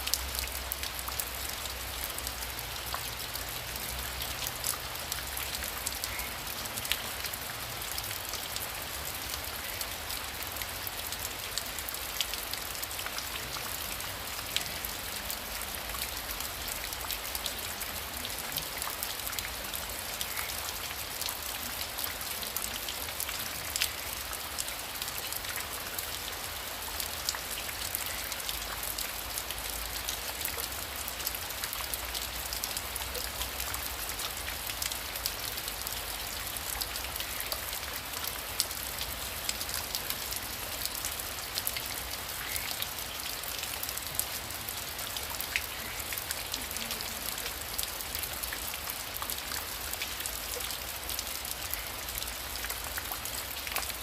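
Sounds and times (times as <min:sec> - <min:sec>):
heavy rain with drop ticks: 0:00.0 - 0:54.0.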